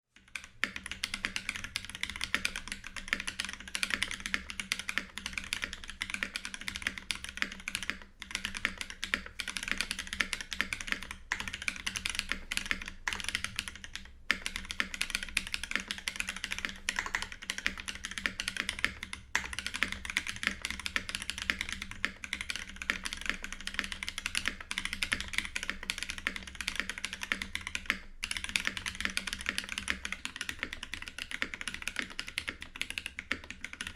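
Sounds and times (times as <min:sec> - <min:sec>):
mechanical keyboard typing: 0:00.2 - 0:33.9.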